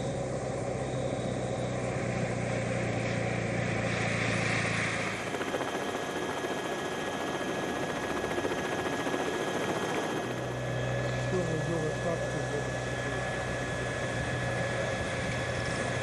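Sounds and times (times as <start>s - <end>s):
helicopter rotor rushing: 0.0s - 16.0s
low engine hum: 0.0s - 16.0s.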